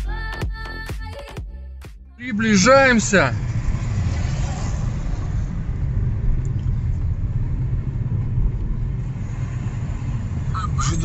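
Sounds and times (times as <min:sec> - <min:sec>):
car driving low rumble: 0:02.1 - 0:11.0.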